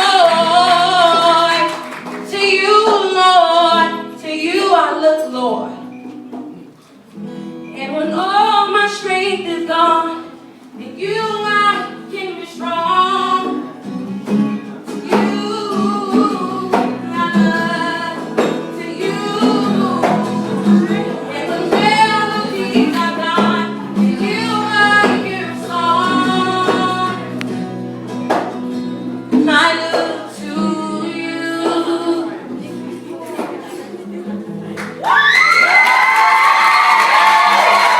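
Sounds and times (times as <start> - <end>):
guitar accompaniment: 0.0 - 37.9.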